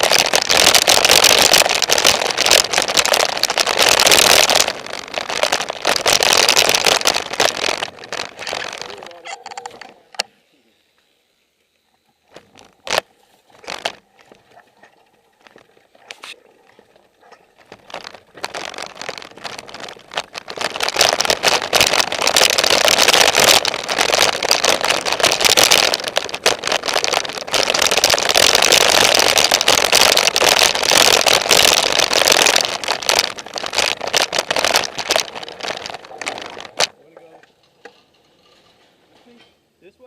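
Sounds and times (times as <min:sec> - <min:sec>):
bike rattling: 0:00.0 - 0:10.3, 0:12.3 - 0:39.9.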